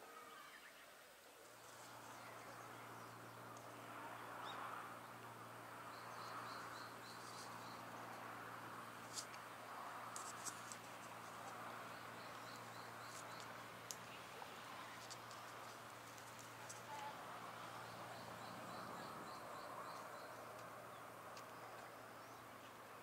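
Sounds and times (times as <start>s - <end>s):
small birds chirping: 1.5s - 22.8s.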